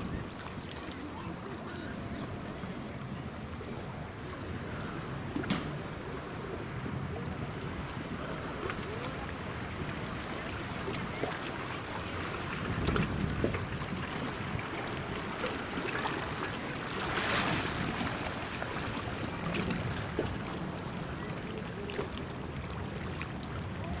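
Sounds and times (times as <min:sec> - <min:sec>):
water lapping against rocks: 0:00.0 - 0:24.0
wind rumbling on microphone: 0:00.0 - 0:24.0.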